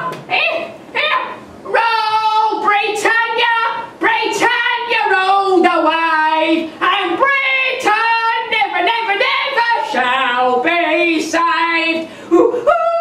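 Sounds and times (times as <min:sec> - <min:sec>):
woman singing: 0:01.7 - 0:13.0.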